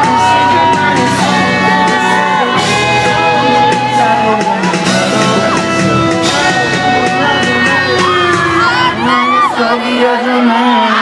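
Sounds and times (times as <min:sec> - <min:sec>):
audience shouting and singing along: 0:00.0 - 0:11.0
live pop music over speakers: 0:00.0 - 0:11.0
person singing: 0:00.0 - 0:11.0.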